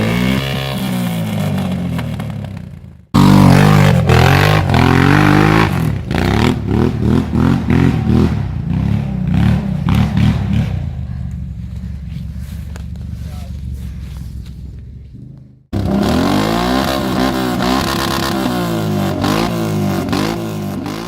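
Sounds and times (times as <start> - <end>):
engine revving: 0.0 - 21.0.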